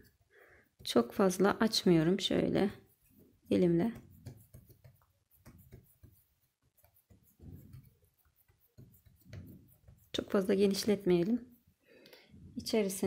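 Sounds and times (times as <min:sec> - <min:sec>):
hands patting dough: 0:00.0 - 0:11.7.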